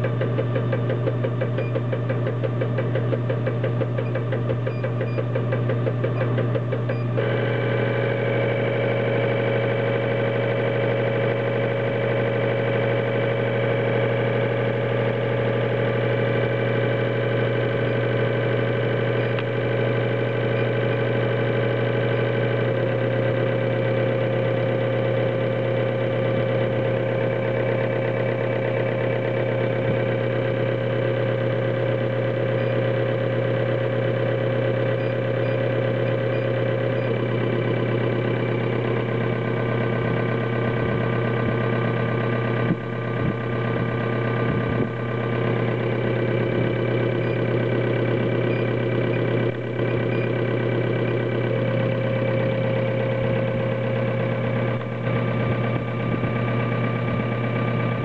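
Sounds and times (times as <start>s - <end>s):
steady machine tones: 0.0s - 58.0s
test bench pump humming: 0.0s - 58.0s.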